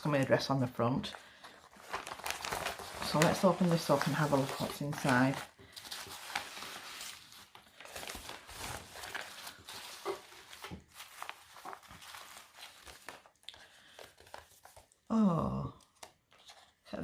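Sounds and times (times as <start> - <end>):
paper rustling and crinkling: 1.0 - 15.0, 15.8 - 16.9.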